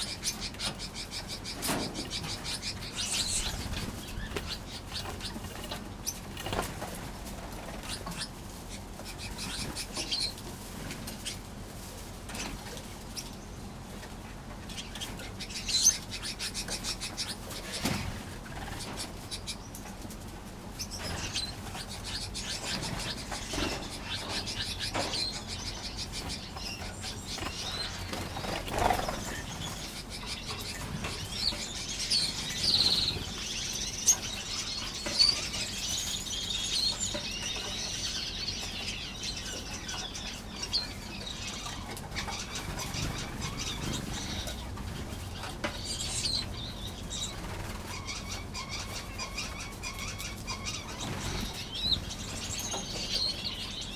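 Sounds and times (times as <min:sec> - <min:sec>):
finches chirping: 0:00.0 - 0:07.0, 0:07.6 - 0:10.4, 0:14.6 - 0:19.8, 0:20.8 - 0:53.9
wings fluttering: 0:00.0 - 0:13.4, 0:14.0 - 0:38.7, 0:39.5 - 0:53.8.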